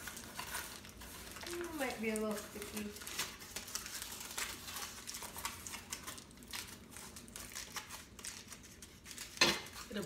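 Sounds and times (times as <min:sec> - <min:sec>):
aluminium foil crinkling: 0:00.0 - 0:10.0.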